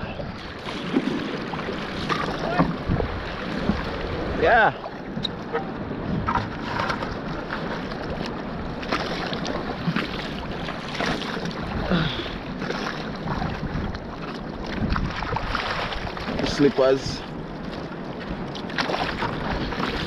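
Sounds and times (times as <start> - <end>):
water sloshing around a raft: 0.0 - 20.0
wind rumbling on the microphone: 0.0 - 20.0.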